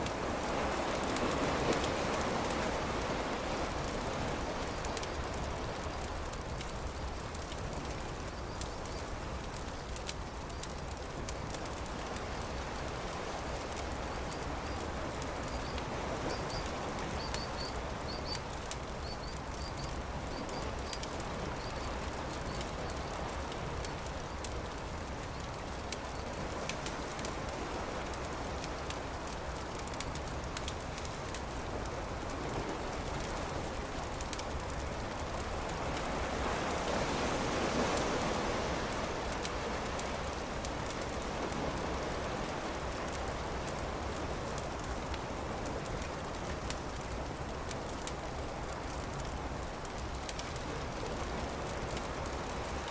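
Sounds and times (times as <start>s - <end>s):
campfire crackling: 0.0s - 52.9s
surf waves: 0.0s - 52.9s.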